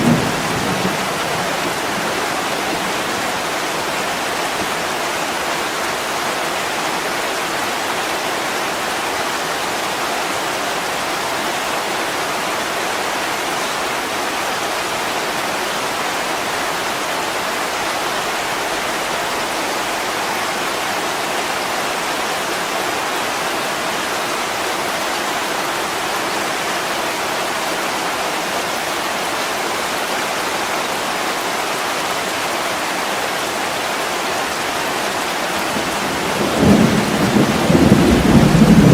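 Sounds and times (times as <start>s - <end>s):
heavy rain on a window: 0.0s - 38.9s.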